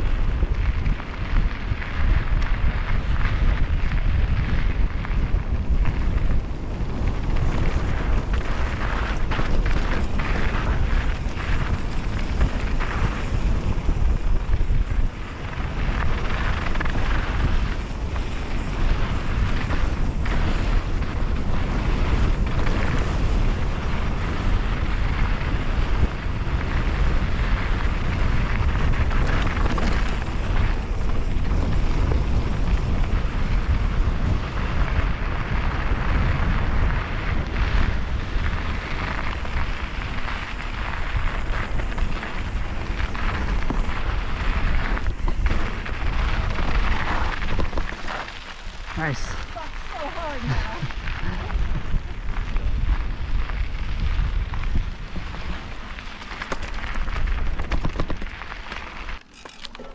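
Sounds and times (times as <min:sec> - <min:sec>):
wind rushing over microphone: 0:00.0 - 0:59.2
bike rumbling and rattling: 0:00.0 - 0:59.9.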